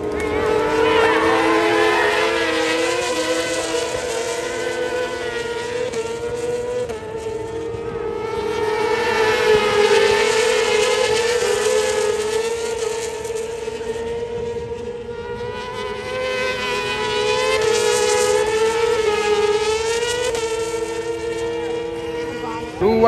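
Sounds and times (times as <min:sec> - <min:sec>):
racing motorcycles passing: 0:00.0 - 0:23.0.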